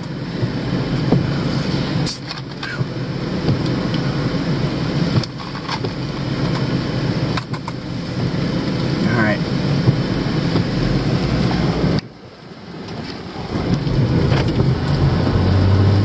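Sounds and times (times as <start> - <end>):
rumble inside car cabin: 0.0 - 16.0.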